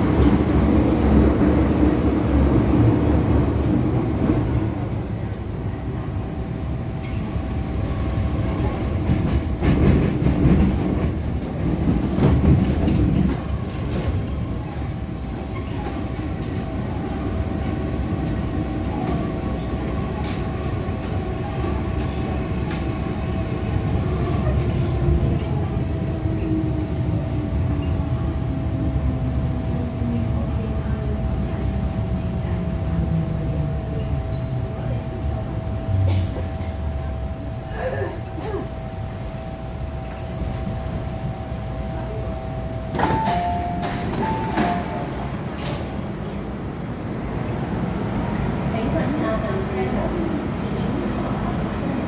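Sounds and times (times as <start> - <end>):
train wheel rumble: 0.0 - 52.0.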